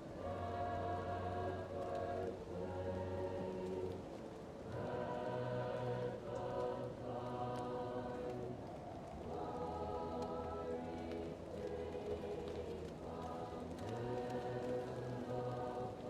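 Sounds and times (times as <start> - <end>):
fireplace crackling: 0.0 - 16.0
muffled choir singing: 0.0 - 16.0.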